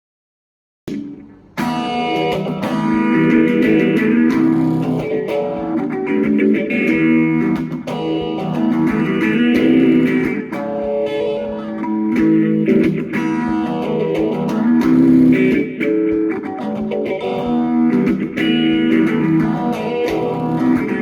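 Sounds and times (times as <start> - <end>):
guitar playing: 0.9 - 21.0.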